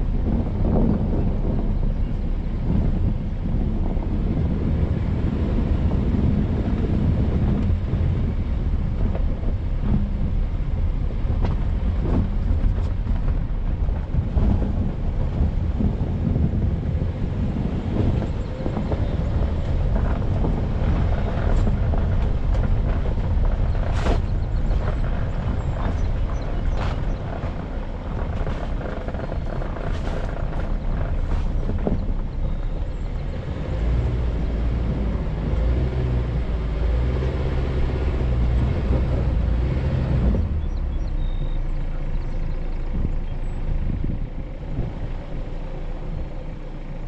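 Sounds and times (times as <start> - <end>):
off-road engine rumble: 0.0 - 47.0.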